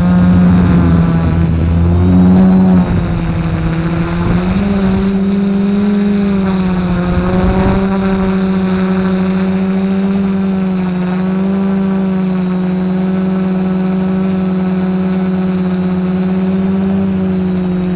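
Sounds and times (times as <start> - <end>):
drone motors and propellers droning: 0.0 - 17.9.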